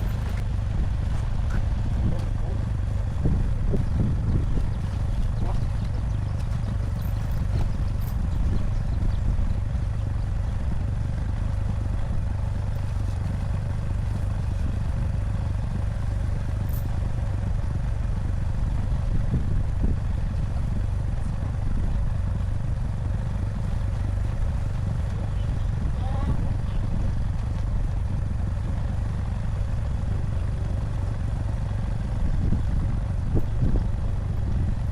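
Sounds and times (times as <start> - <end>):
engine droning: 0.0 - 34.9.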